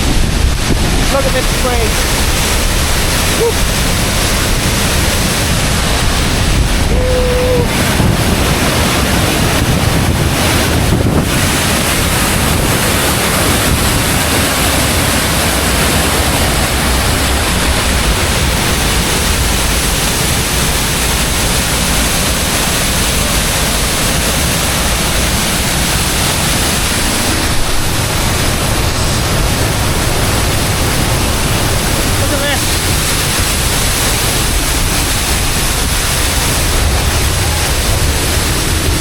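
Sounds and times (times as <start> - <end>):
waterfall roaring: 0.0 - 39.0
wind noise on microphone: 0.0 - 39.0.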